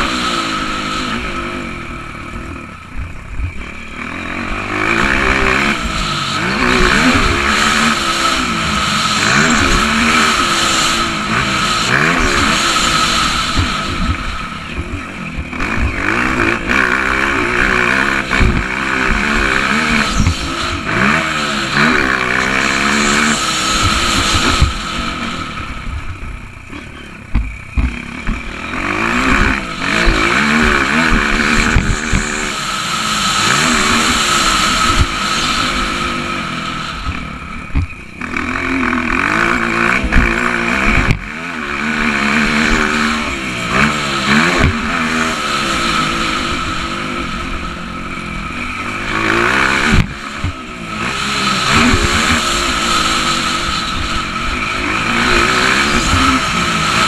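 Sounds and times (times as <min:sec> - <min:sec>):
dirt bike engine revving: 0:00.0 - 0:57.0
wind rush: 0:04.6 - 0:41.2, 0:42.0 - 0:57.0.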